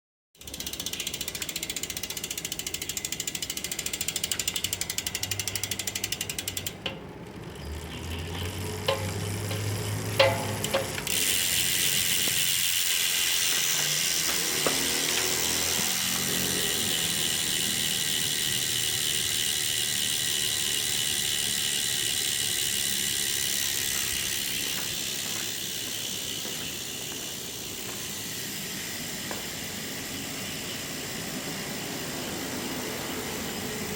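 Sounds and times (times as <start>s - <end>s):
bicycle freehub ratchet buzzing: 0.4s - 33.9s.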